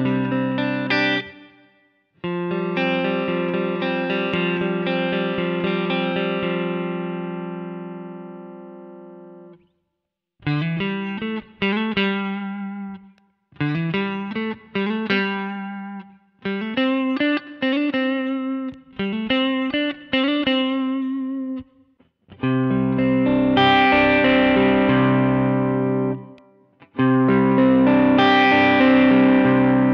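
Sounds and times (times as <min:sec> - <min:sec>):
clean electric guitar chords: 0:00.0 - 0:09.6, 0:13.6 - 0:21.7, 0:22.3 - 0:29.9.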